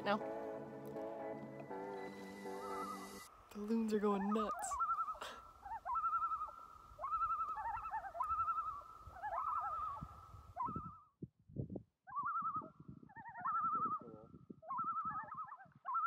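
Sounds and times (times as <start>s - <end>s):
loons giving tremolo calls: 0.0s - 11.0s, 12.1s - 16.0s.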